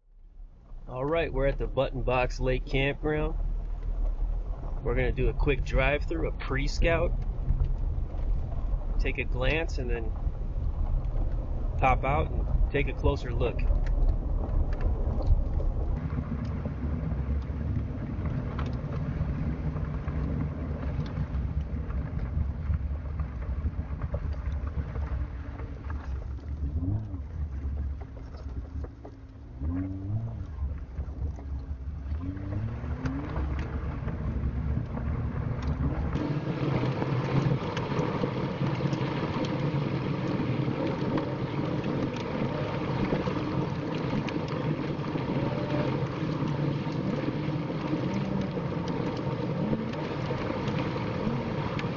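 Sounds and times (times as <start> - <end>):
vehicle engine rumble: 0.0 - 51.9.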